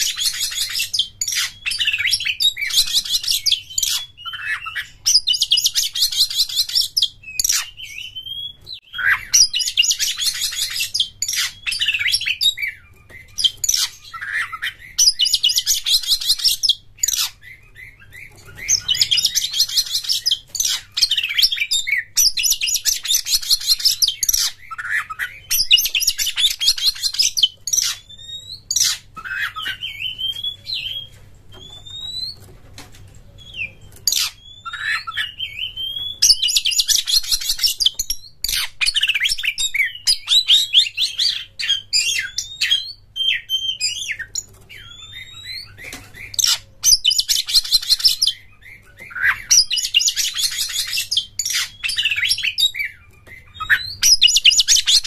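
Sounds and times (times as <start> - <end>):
songbird singing: 0.0 - 32.5, 33.2 - 55.0.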